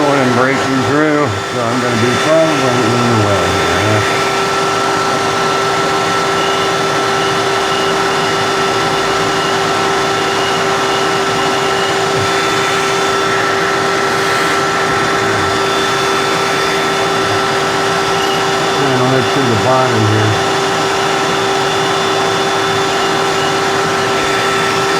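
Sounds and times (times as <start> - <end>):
shop vacuum running: 0.0 - 24.9.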